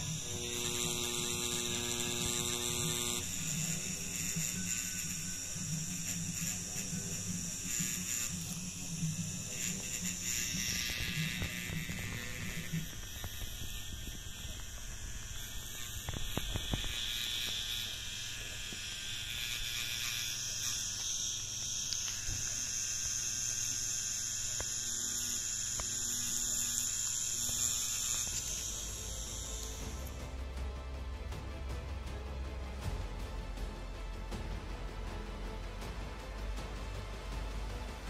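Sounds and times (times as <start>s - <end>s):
tattoo machine buzzing: 0.0s - 30.5s.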